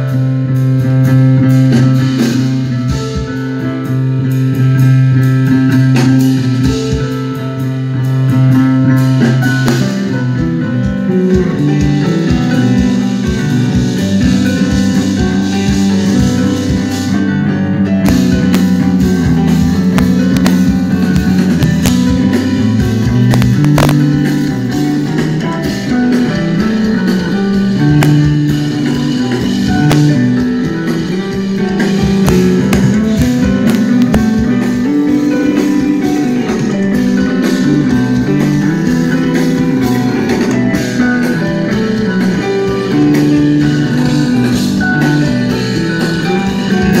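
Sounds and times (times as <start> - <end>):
light drums: 0.0 - 17.2, 18.0 - 47.0
guitar music: 0.0 - 47.0.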